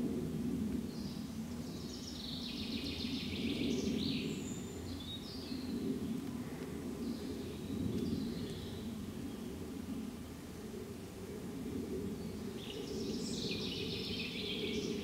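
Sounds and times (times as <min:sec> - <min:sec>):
steady low rumble: 0:00.0 - 0:15.0
birds singing: 0:00.9 - 0:10.4, 0:12.1 - 0:15.0.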